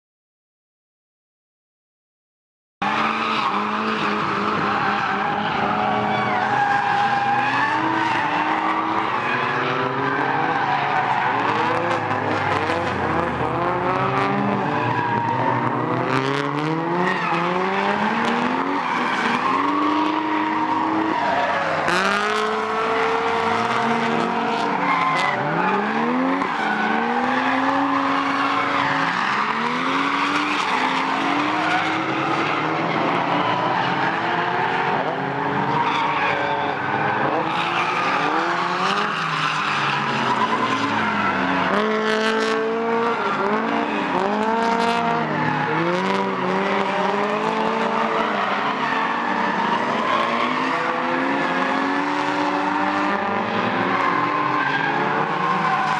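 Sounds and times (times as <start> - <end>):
car engines revving: 2.8 - 55.9.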